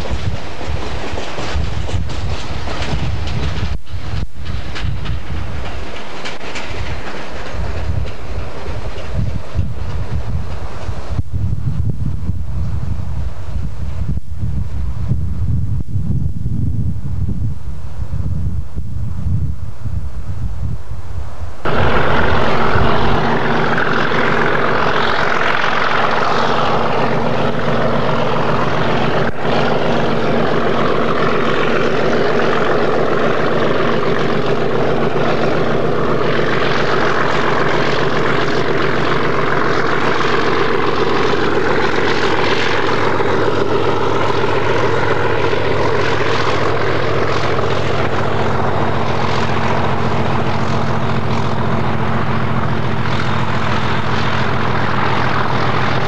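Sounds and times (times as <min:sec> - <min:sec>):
locomotive engine drone: 0:00.0 - 0:56.0.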